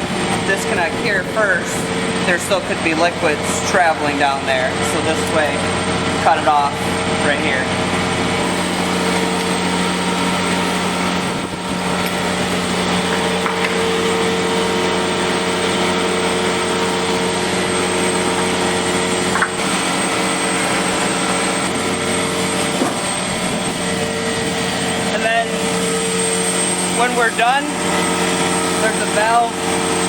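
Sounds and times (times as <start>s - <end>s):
vacuum truck pump droning: 0.0s - 30.0s.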